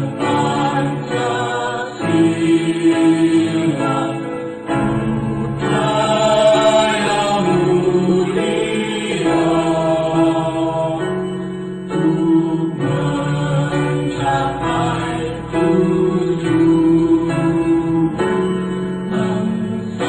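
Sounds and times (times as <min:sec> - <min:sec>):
choir singing long notes: 0:00.0 - 0:20.0.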